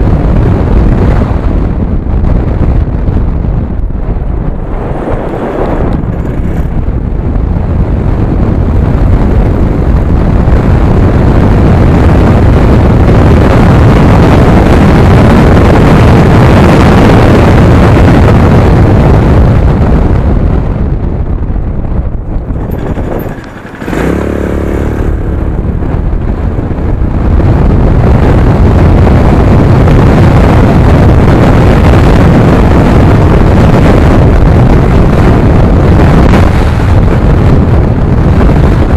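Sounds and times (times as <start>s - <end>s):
scooter engine and road noise: 0.0s - 38.9s
wind buffeting microphone: 0.0s - 38.9s.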